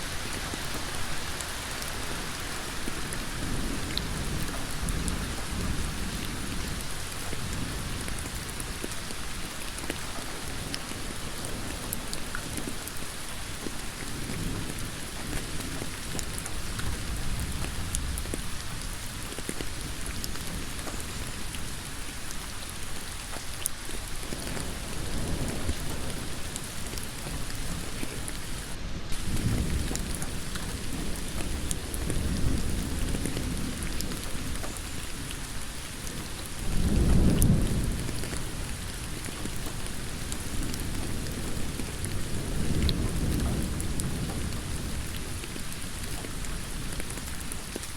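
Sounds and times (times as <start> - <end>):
heavy rain on a road: 0.0 - 47.9.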